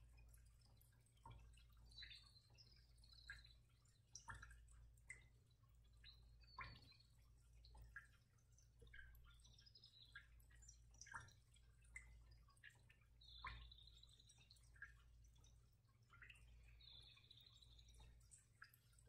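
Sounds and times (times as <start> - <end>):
faint high-pitched chirps and plinks: 0.0 - 19.0.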